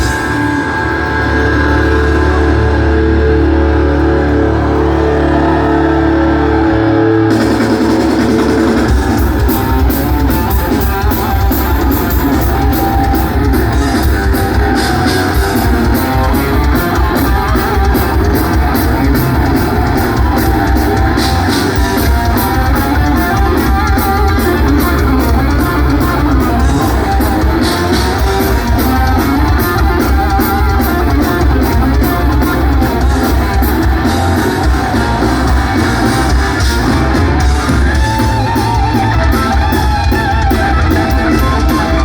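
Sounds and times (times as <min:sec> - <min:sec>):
bass guitar: 0:00.0 - 0:42.0
drums and cymbals: 0:00.0 - 0:42.0
electric guitars: 0:00.0 - 0:42.0.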